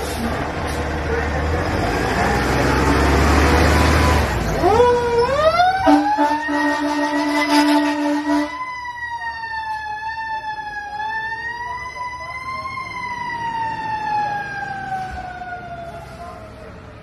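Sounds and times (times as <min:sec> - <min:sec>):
fire engine siren wailing: 0:02.1 - 0:17.0.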